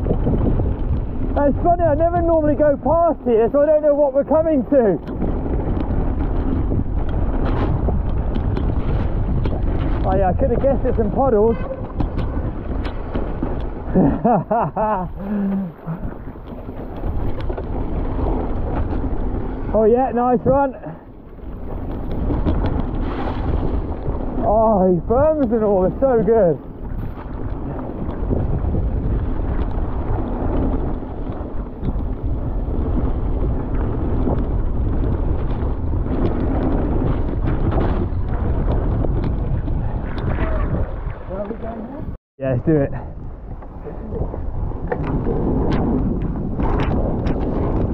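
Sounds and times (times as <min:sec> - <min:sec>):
bike rolling over wet trail: 0:00.0 - 0:42.0, 0:43.2 - 0:47.9
wind buffeting microphone: 0:00.0 - 0:47.9.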